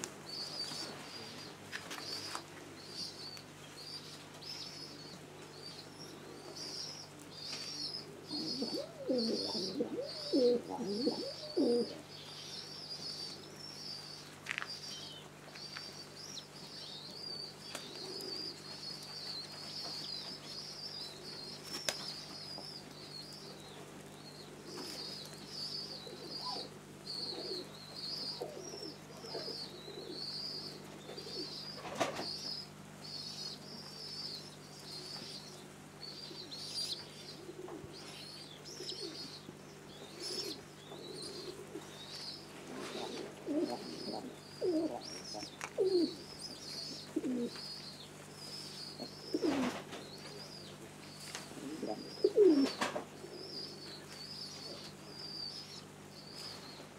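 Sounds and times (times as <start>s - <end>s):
pigeons cooing: 4.8s - 15.2s, 16.9s - 32.6s, 33.2s - 56.9s.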